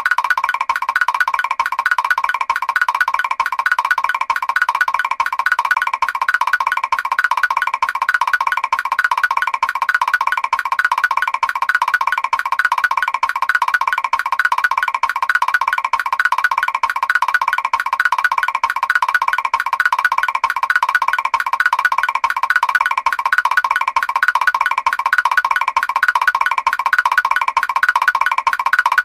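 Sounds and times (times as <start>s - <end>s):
fast high pitched walking taps: 0.0s - 29.0s.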